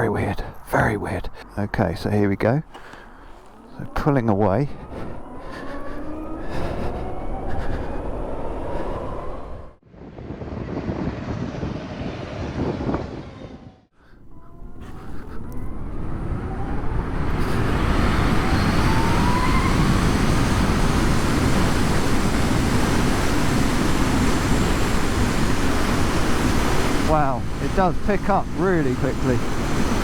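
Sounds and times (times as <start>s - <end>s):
wind and road noise: 0.0s - 30.0s
electric motorcycle whine: 3.2s - 30.0s.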